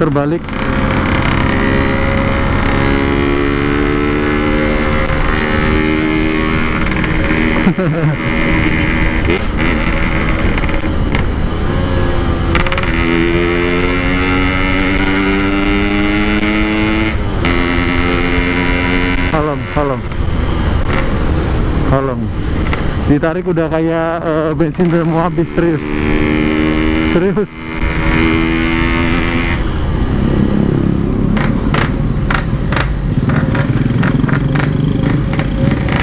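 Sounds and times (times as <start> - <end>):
motorcycle engine under way: 0.0 - 23.2, 23.9 - 36.0.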